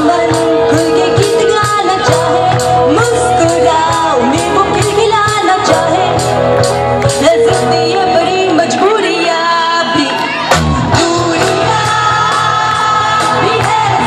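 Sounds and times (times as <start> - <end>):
drums: 0.0 - 14.0
electric guitars: 0.0 - 14.0
woman singing: 0.0 - 14.0.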